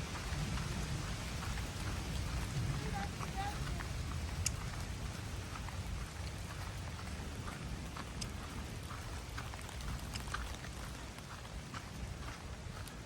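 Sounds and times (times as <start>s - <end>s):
light rain falling: 0.0s - 13.0s
steady low rumble: 0.0s - 13.0s.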